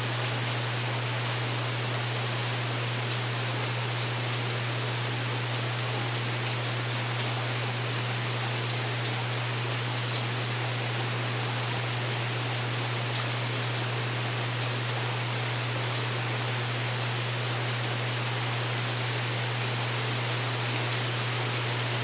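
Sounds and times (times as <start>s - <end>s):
rain pattering on a roof: 0.1s - 22.0s.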